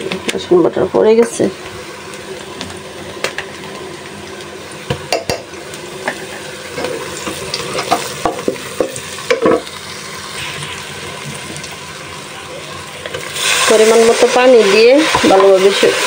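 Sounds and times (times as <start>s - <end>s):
oil sizzling in a pot: 0.0s - 16.0s.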